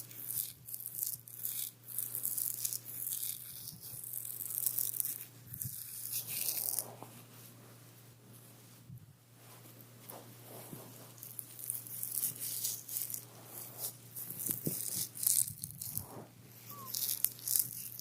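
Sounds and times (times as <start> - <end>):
rustling and crinkling: 2.2 - 18.0.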